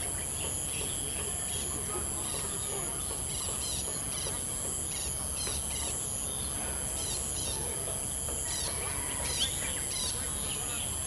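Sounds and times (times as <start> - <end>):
insect chirps: 0.0 - 11.0
insects trilling: 0.0 - 11.0.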